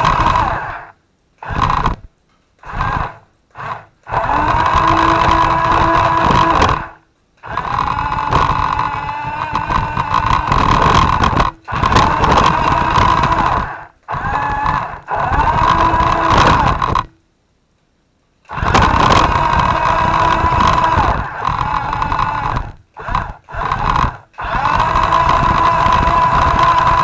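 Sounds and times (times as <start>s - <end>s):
electric motor and gearbox whining: 0.0s - 17.2s, 18.5s - 27.0s.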